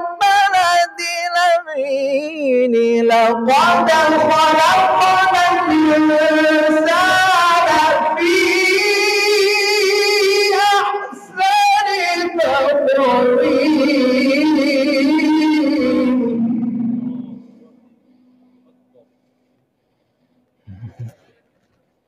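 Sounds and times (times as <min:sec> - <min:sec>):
man reciting melodically: 0:00.0 - 0:17.8.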